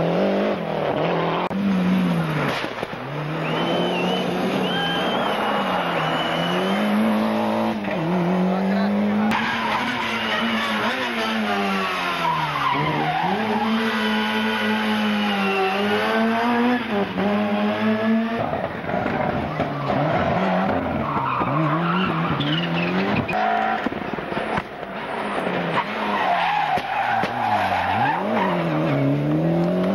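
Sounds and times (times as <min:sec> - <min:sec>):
rally car engine revving: 0:00.0 - 0:29.9.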